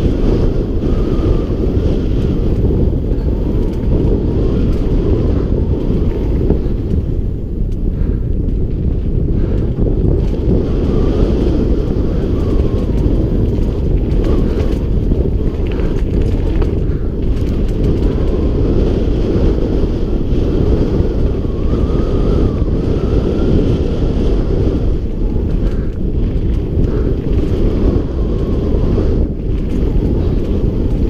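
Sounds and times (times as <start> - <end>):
bike tyres rumbling on dirt: 0.0 - 31.0
wind buffeting microphone: 0.0 - 31.0.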